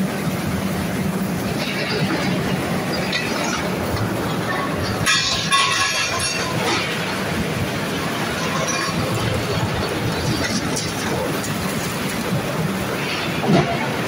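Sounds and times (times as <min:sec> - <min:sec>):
steel mill rollers rumbling: 0:00.0 - 0:14.0.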